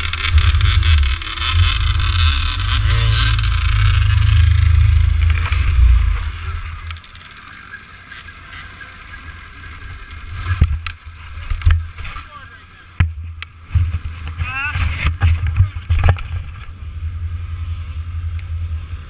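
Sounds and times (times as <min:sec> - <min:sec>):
helmet microphone rumbling and scraping: 0:00.0 - 0:07.1, 0:10.2 - 0:19.0.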